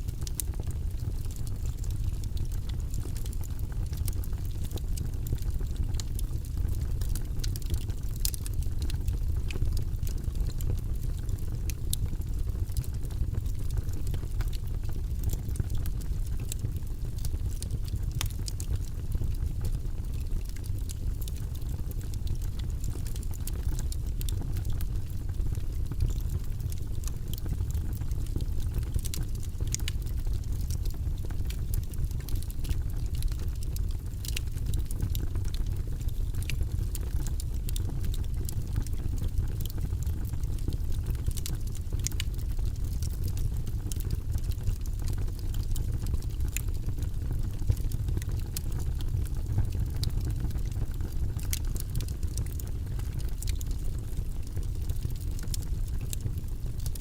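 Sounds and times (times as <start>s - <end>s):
burning wood crackling and popping: 0.0s - 57.0s
fire flames rumbling: 0.1s - 57.0s.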